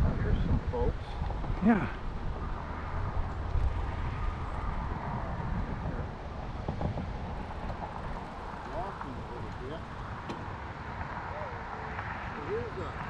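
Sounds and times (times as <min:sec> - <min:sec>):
highway traffic rumbling: 0:00.0 - 0:13.0.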